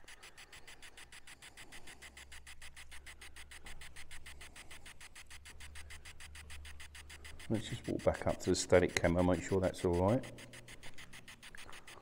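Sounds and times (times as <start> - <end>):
rapid radio sweep ticking: 0.0 - 12.0.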